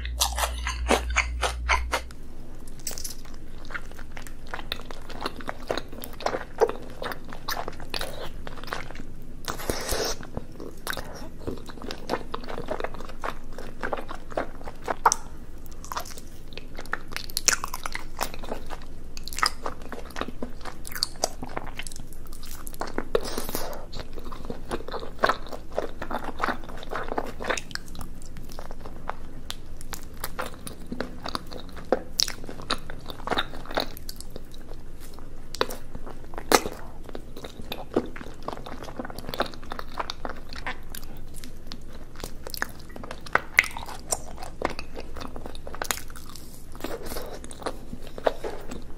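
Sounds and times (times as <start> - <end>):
chewing sticky food: 0.0 - 48.9.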